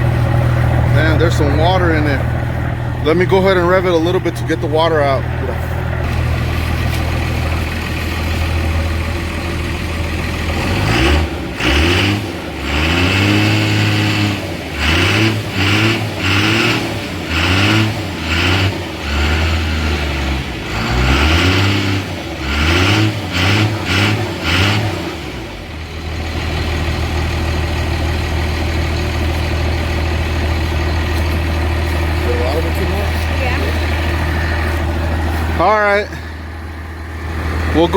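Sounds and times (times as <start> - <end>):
diesel engine idling and revving: 0.0 - 37.9.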